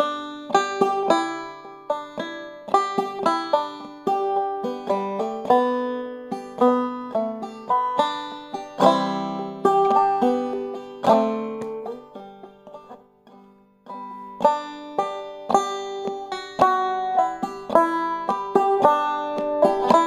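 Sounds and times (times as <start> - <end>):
banjo playing: 0.0 - 20.0.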